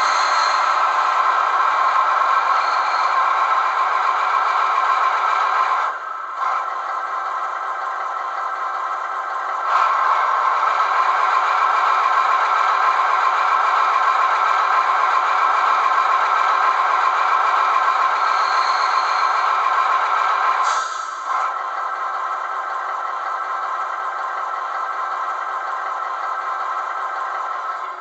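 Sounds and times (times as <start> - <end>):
diesel engine sound from small speaker: 0.0 - 28.0.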